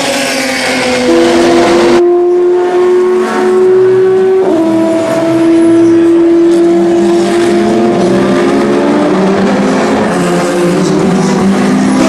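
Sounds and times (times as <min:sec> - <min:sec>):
race car engines at high pitch: 0:00.0 - 0:12.0
rough engine sound: 0:00.0 - 0:12.0.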